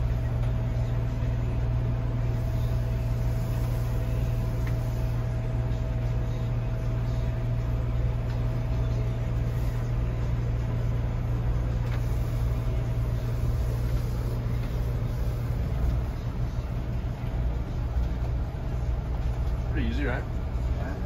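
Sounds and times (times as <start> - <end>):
motorhome engine drone: 0.0 - 21.0
road noise: 0.0 - 21.0.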